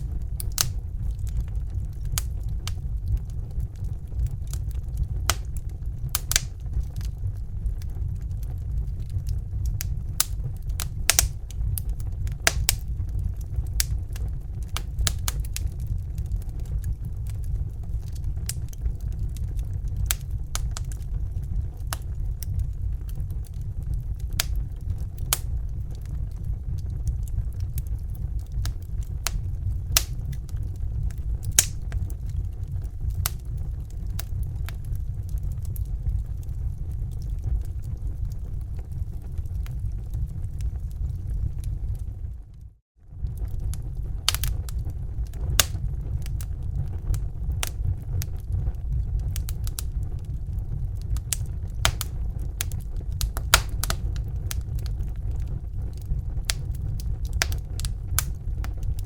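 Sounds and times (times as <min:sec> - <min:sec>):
fire crackling: 0:00.0 - 0:59.0
low rumble: 0:00.0 - 0:59.0.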